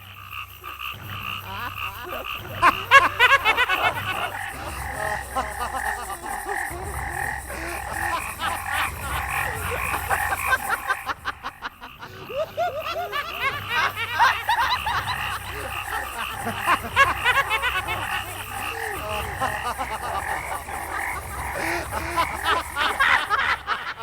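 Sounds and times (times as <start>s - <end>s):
frogs croaking and chirping: 0.0s - 24.0s
steady low drone: 0.0s - 24.0s.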